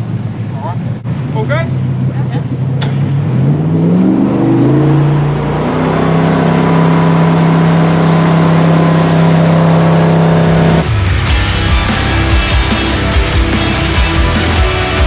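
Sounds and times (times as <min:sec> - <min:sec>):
jet boat engine revving: 0:00.0 - 0:15.0.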